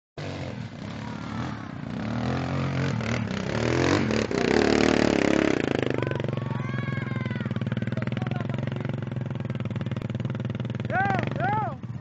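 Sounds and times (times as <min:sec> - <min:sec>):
dirt bike engine revving: 0:00.2 - 0:12.0.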